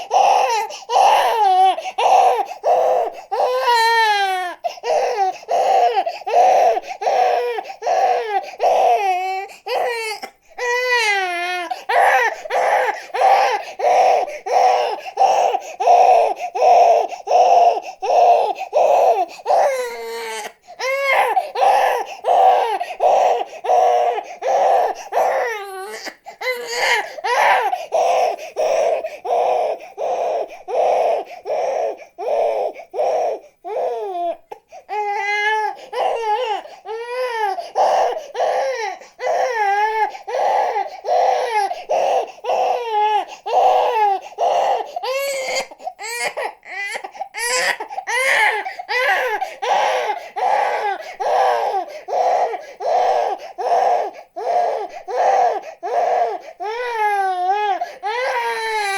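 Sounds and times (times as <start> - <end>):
infant crying in short sobs: 0.0 - 58.9.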